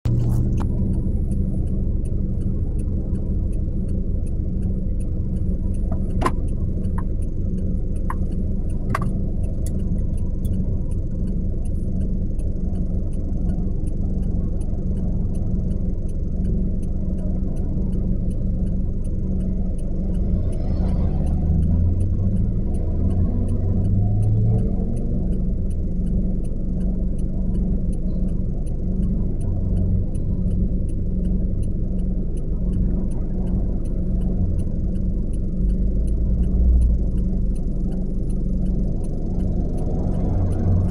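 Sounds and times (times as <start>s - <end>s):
car engine idling: 0.0s - 40.9s
cross traffic passing: 0.1s - 40.9s.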